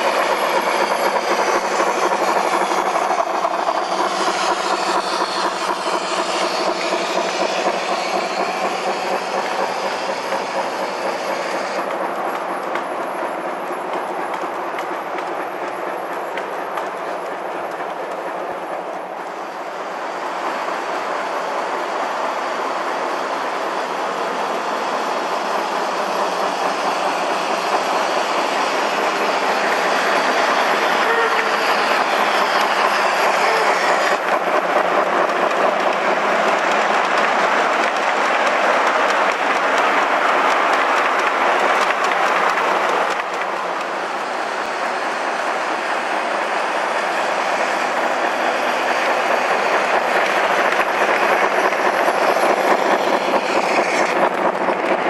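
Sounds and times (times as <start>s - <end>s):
model train wheels clickety-clack: 0.0s - 55.0s.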